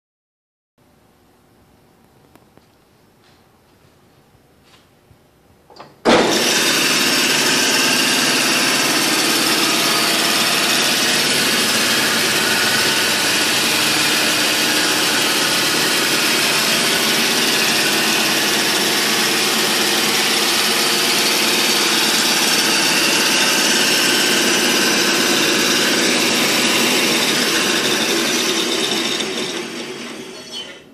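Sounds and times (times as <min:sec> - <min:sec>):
band saw whirring: 0:06.0 - 0:30.9.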